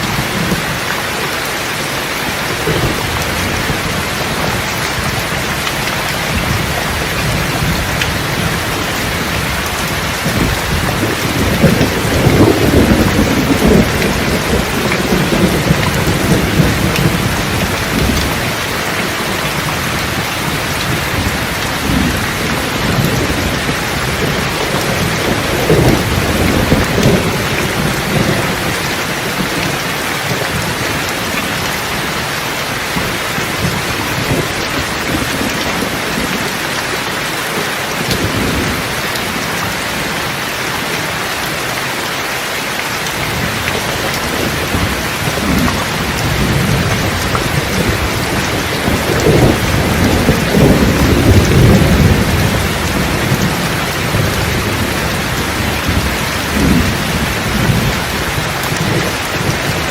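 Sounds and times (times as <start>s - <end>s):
steady rain: 0.0s - 59.9s
rolling thunder: 2.3s - 36.7s, 43.2s - 59.9s.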